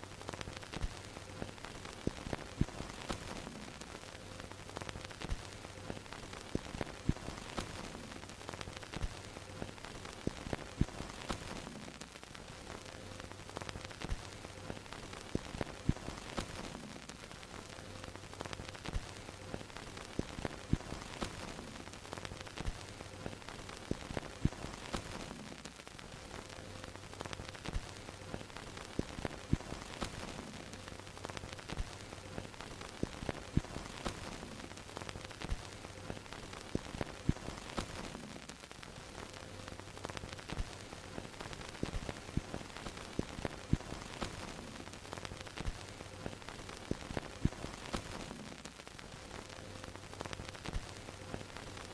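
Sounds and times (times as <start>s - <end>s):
crackling hiss with pops: 0.0s - 51.9s.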